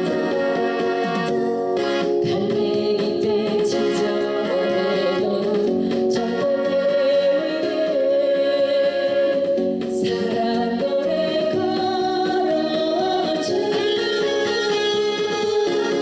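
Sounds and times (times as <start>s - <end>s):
band accompaniment: 0.0s - 8.1s, 8.9s - 16.0s
woman singing: 0.0s - 16.0s.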